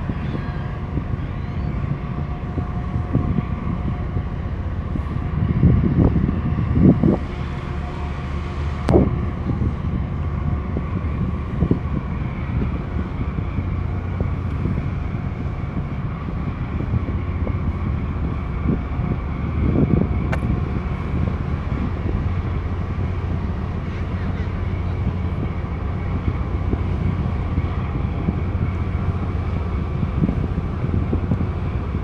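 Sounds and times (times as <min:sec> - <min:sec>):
diesel engine drone: 0:00.0 - 0:32.0
wind buffeting microphone: 0:00.0 - 0:32.0.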